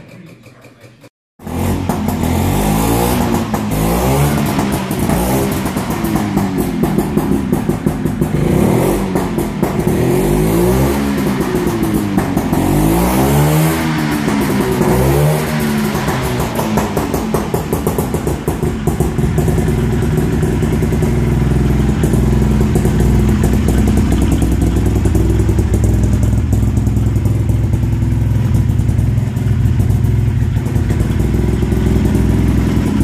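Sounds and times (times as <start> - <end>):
two-stroke engine idling: 0.0 - 13.0, 13.6 - 33.0.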